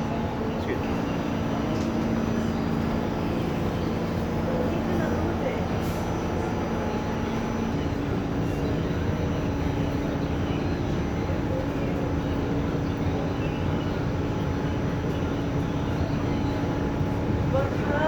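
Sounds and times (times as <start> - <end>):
steady hum: 0.0 - 18.0
subway car rumbling on track: 0.0 - 18.0.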